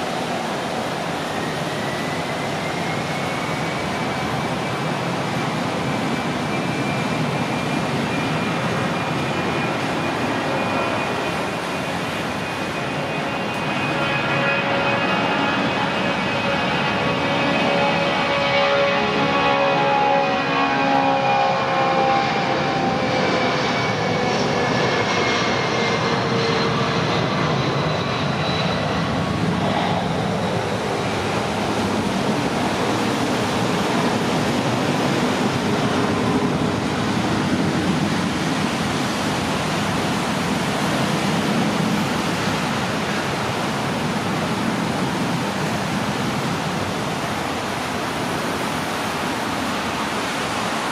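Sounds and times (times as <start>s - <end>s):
jet airliner taking off: 0.0s - 50.9s
whining jet engine: 0.0s - 50.9s.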